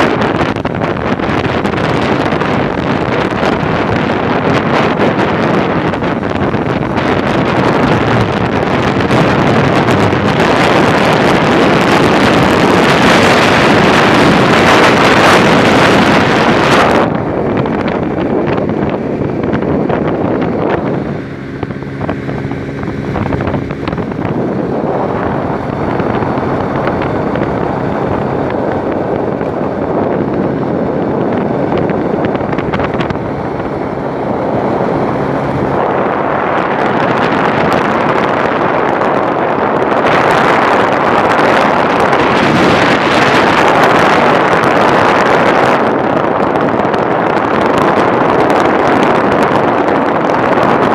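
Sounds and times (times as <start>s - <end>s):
wind noise on microphone: 0.0s - 50.9s.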